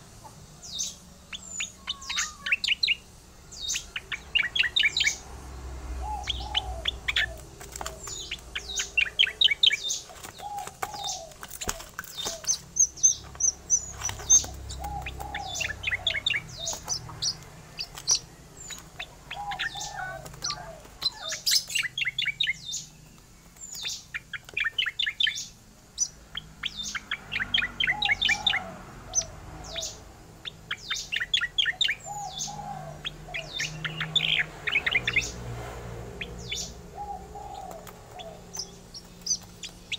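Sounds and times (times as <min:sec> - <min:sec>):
bird singing trilled song: 0:00.0 - 0:35.5, 0:36.1 - 0:39.9.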